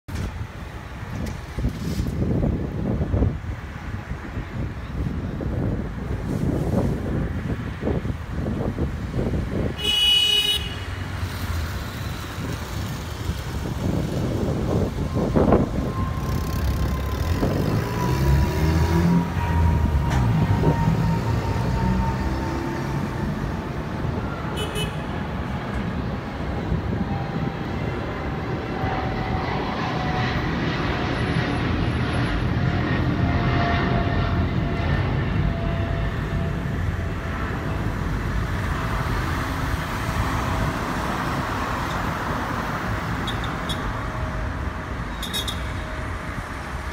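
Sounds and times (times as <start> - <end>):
jet engine rumble and whine: 0.1 - 10.2, 10.8 - 46.9
street traffic: 0.1 - 46.9.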